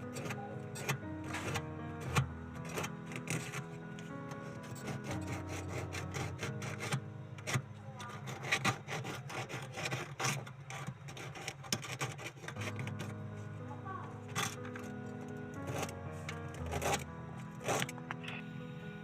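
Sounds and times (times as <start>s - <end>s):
tool rasping on metal: 0.0s - 13.2s, 14.2s - 18.4s
background music: 0.0s - 19.0s.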